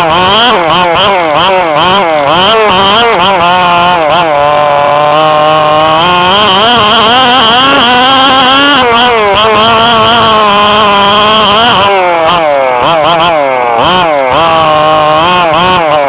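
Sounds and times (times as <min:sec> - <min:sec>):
rc car motor revving: 0:00.0 - 0:16.0.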